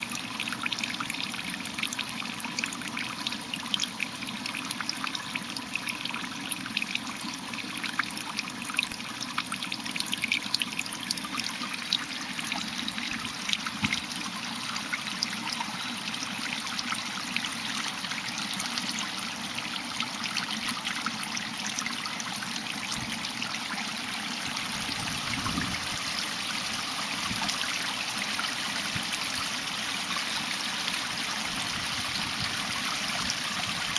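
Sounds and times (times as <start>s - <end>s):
water trickling into a pond: 0.0s - 33.9s.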